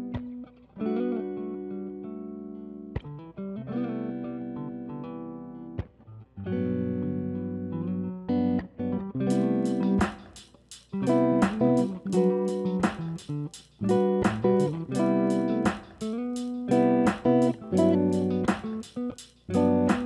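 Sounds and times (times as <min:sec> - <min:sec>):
strummed guitar chords: 0:00.0 - 0:20.0.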